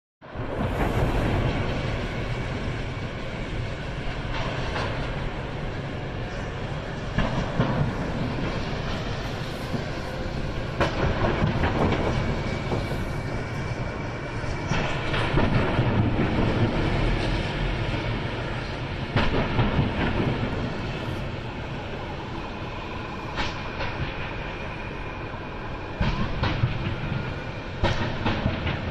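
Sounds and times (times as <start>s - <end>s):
roar of large fire: 0.2s - 24.4s.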